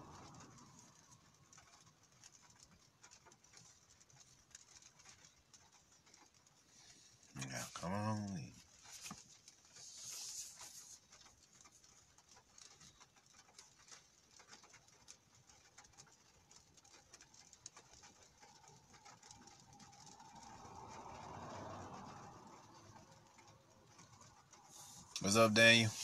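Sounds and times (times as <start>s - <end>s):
raindrops ticking on car roof: 0.0s - 26.0s.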